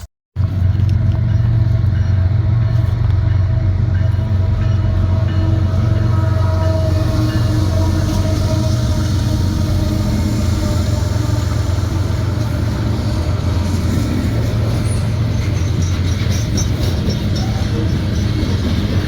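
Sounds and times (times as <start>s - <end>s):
freight train rumbling past: 0.4s - 19.0s.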